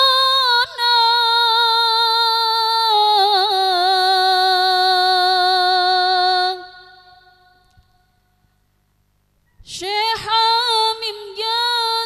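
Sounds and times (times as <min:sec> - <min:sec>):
woman singing unaccompanied: 0:00.0 - 0:07.6, 0:09.6 - 0:12.0.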